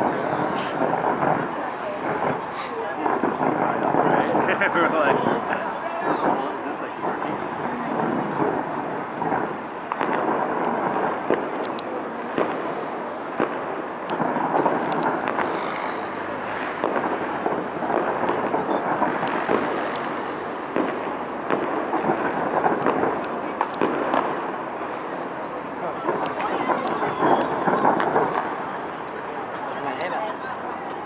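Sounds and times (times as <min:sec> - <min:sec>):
fireworks bangs: 0:00.0 - 0:31.0
fireworks crackling rumble: 0:00.0 - 0:31.0.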